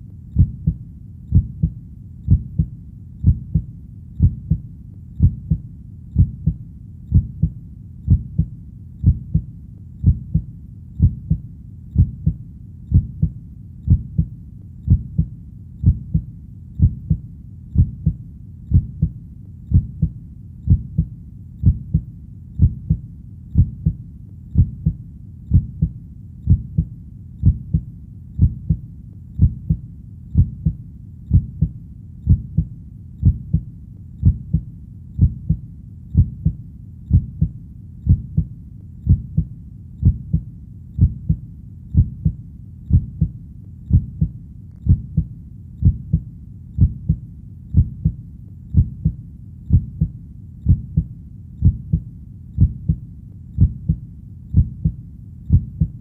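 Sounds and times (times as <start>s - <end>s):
heartbeat lub-dub: 0.0s - 56.0s.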